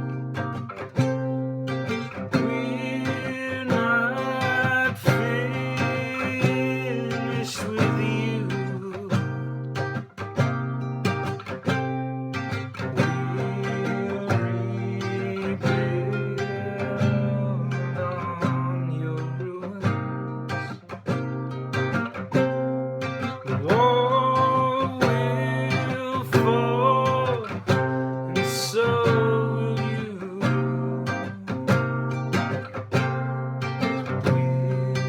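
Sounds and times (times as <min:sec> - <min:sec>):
acoustic guitar strumming: 0:00.0 - 0:35.0
sliding lead guitar melody: 0:00.0 - 0:35.0.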